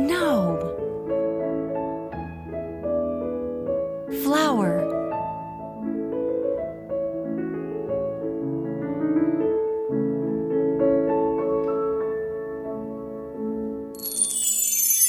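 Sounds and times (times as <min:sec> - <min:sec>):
piano melody over held chords: 0:00.0 - 0:15.0.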